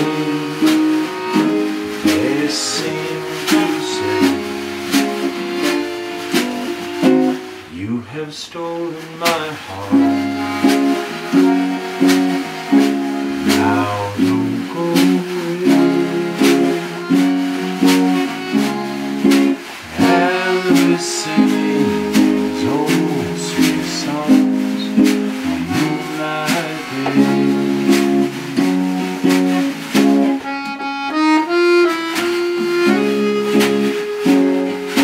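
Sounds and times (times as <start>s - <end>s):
bright high melodic passage: 0.0s - 7.6s, 9.7s - 35.0s
accordion holding chords: 0.0s - 7.7s, 9.7s - 35.0s
acoustic guitar strumming: 0.0s - 35.0s
drum keeping time: 0.0s - 35.0s.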